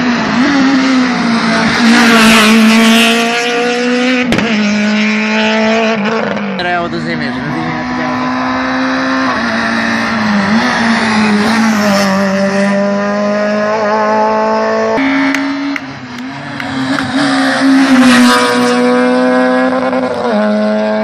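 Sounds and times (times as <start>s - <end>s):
rally cars racing past: 0.0s - 21.0s.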